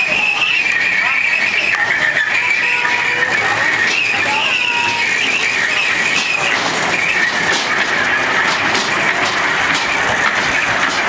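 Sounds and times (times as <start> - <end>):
regular rail clicks: 0.0 - 11.0
train running on track: 0.0 - 11.0.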